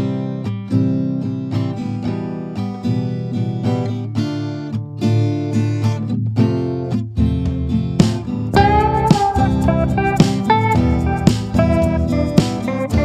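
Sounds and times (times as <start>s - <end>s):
acoustic guitar picking melody: 0.0s - 13.0s.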